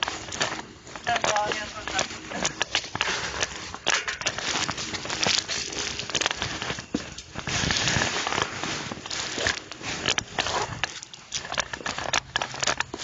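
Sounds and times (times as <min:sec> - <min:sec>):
rustling movement noise: 0:00.0 - 0:13.0.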